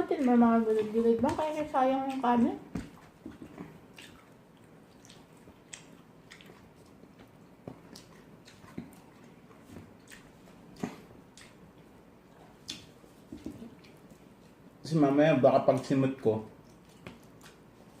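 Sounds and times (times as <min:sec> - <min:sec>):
person chewing and smacking: 0:00.1 - 0:14.8, 0:15.6 - 0:18.0.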